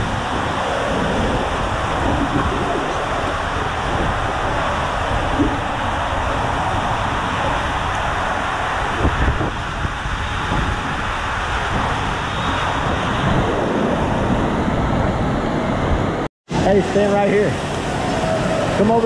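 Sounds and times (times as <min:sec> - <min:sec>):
water rushing through slide tube: 0:00.0 - 0:15.3, 0:16.8 - 0:19.0
low rumbling: 0:00.0 - 0:16.3.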